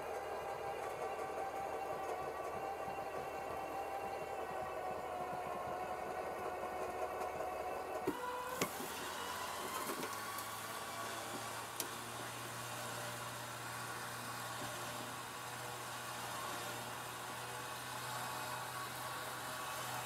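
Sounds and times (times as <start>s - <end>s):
electric winch motor whining: 0.0s - 20.0s.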